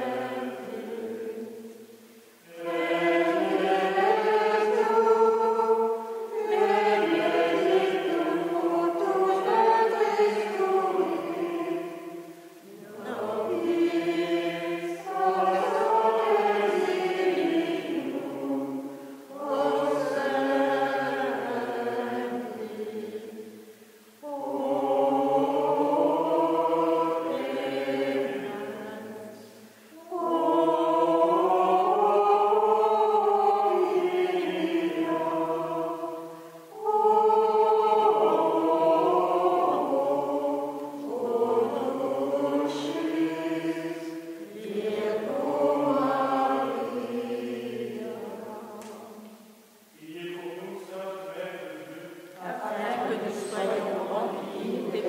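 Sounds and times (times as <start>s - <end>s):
voices singing slow chant: 0.0s - 55.0s.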